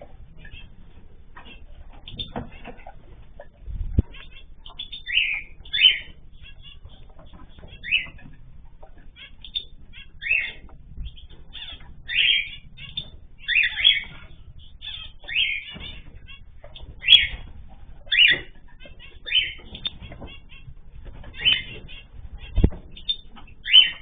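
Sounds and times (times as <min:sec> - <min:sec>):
cage birds chirping: 0:00.0 - 0:24.0.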